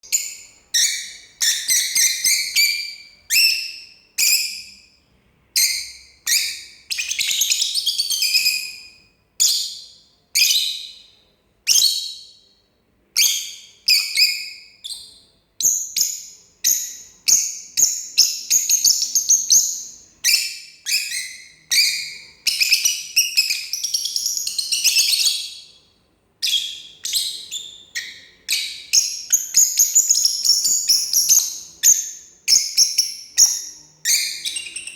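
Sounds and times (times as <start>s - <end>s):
lovebird chirping and twittering: 0.0s - 4.9s, 5.6s - 12.5s, 13.2s - 25.8s, 26.4s - 34.9s.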